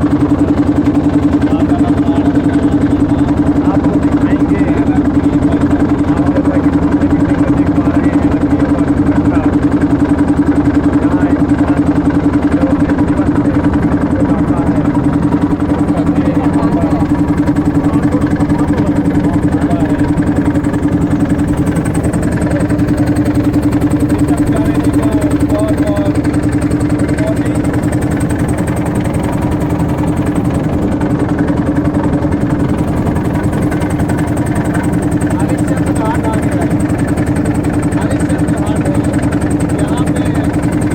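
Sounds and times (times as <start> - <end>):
boat engine droning: 0.0 - 40.9.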